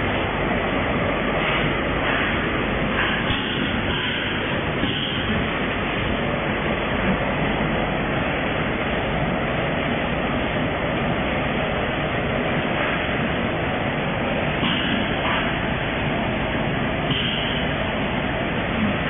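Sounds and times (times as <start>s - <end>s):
packing machines running: 0.0s - 19.0s.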